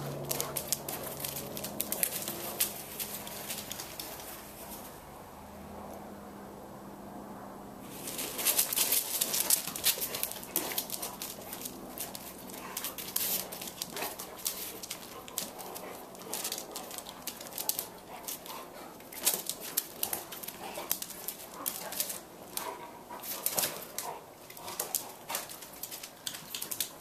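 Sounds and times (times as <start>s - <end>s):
dogs scuffling: 0.0s - 5.0s, 7.8s - 27.0s.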